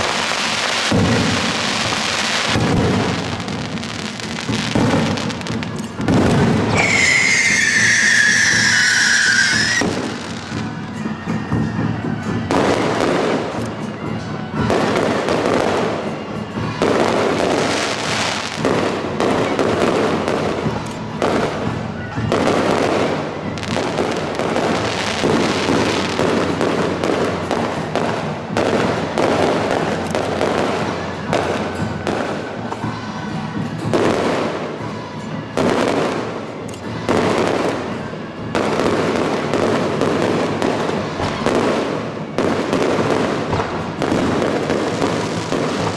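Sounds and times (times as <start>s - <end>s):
fireworks crackling and banging: 0.0s - 45.9s.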